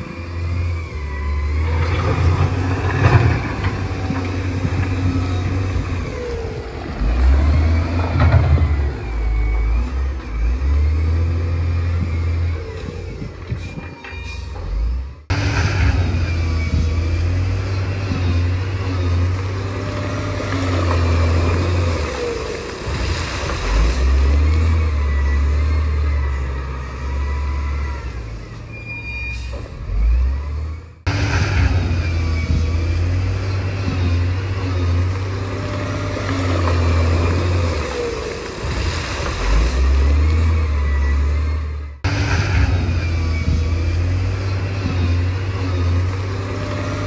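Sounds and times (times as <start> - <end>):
bulldozer diesel engine under load: 0.0 - 47.0.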